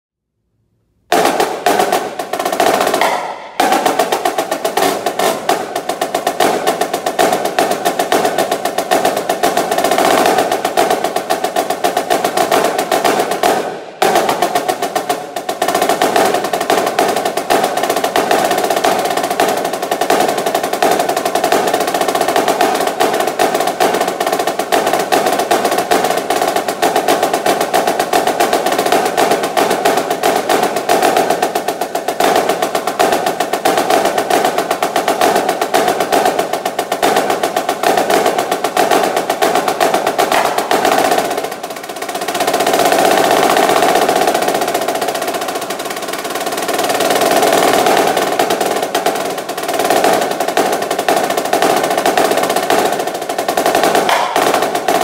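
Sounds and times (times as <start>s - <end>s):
snare drum rolls: 1.0s - 55.0s.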